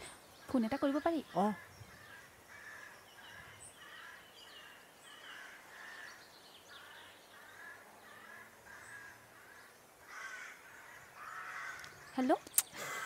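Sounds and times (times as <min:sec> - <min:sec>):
crows cawing: 0:01.4 - 0:12.2.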